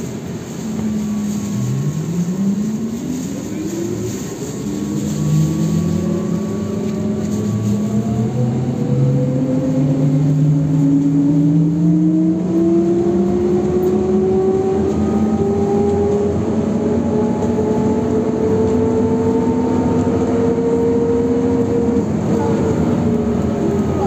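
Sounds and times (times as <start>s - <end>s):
road noise inside vehicle: 0.0s - 24.0s.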